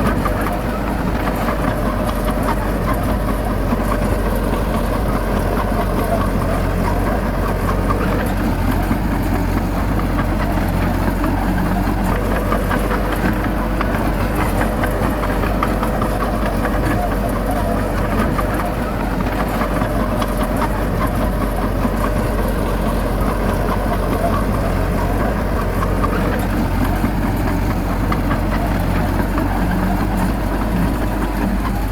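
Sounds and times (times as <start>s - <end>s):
engine rattle: 0.0s - 31.9s
heavy diesel engine droning: 0.0s - 31.9s.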